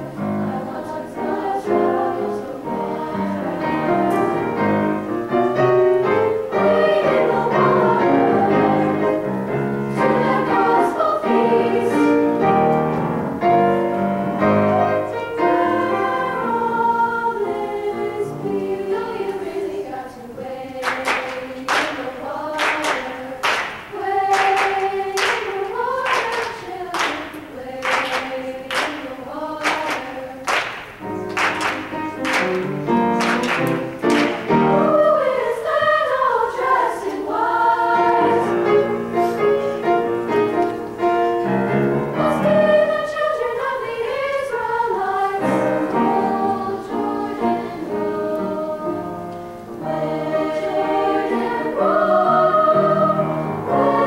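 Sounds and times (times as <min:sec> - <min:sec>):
treble choir singing: 0:00.0 - 0:54.0.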